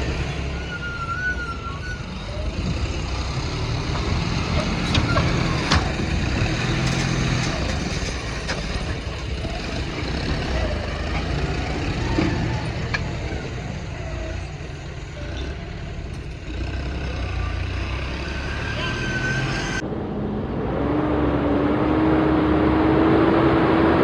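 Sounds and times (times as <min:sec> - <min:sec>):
diesel machinery running: 0:00.0 - 0:24.0.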